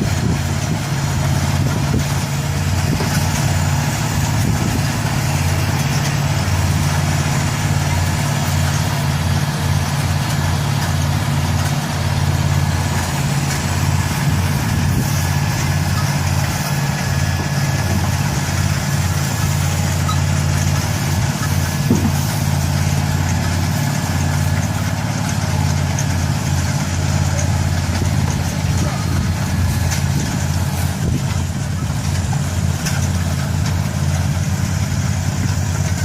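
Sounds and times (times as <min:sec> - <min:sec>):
harvesting machine engine humming: 0:00.0 - 0:36.0.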